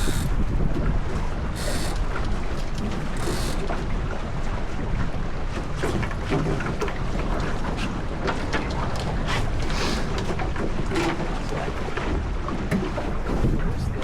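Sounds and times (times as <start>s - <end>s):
water slapping boat hull: 0.0s - 14.0s
wind buffeting microphone: 0.0s - 14.0s.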